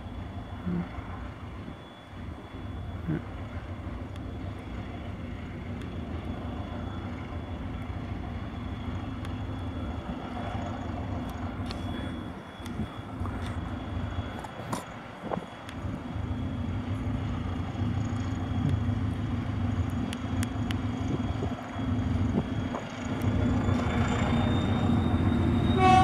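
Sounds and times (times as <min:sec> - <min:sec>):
diesel locomotive engine drone: 0:00.0 - 0:26.0
faint high whine: 0:00.0 - 0:26.0.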